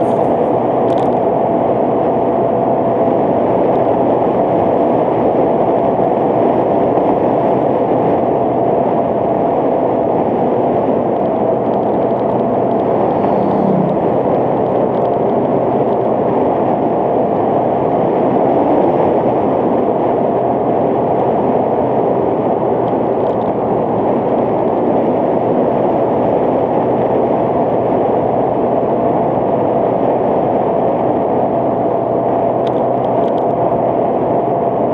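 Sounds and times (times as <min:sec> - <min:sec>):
motorcycle engine drone: 0:00.0 - 0:34.9
road noise: 0:00.0 - 0:34.9
wind rushing over microphone: 0:00.0 - 0:34.9.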